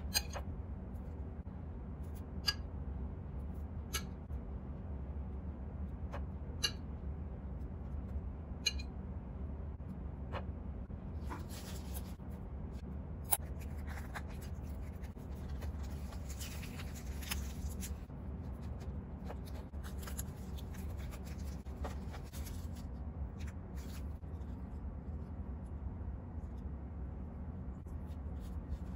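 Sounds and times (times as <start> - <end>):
low hum: 0.0 - 28.9.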